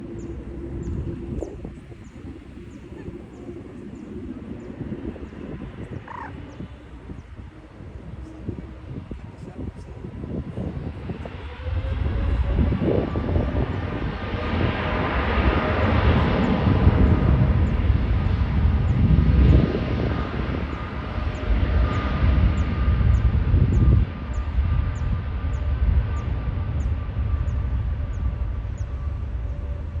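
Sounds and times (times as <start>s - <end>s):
jet engines roaring and whining: 0.0s - 30.0s.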